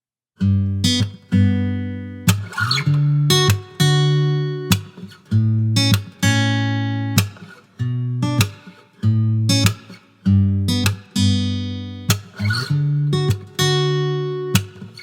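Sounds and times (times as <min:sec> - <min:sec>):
acoustic guitar strummed chords: 0:00.4 - 0:15.0.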